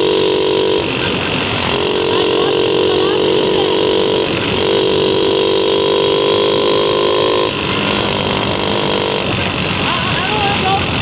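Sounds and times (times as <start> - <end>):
mini bike engine at high revs: 0.0 - 11.0.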